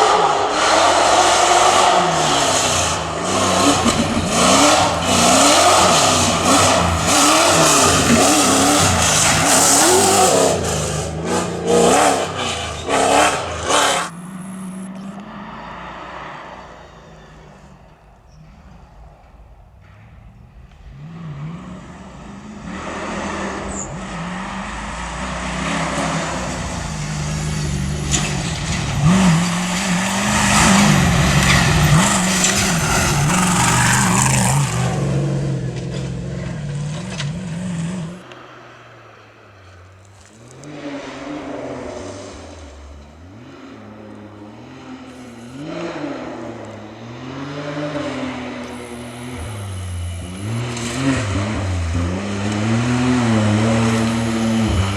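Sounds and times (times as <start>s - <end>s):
fainter engine revving: 0.0s - 54.9s
race car engine revving past: 0.0s - 54.9s.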